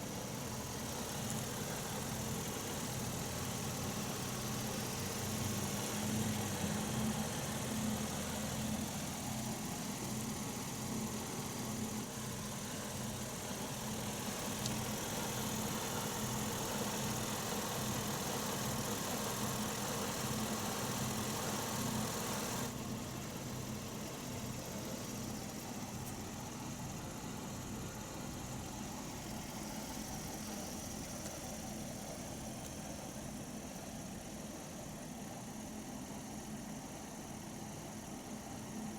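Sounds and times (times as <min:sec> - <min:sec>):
car engine idling: 0:00.0 - 0:37.2.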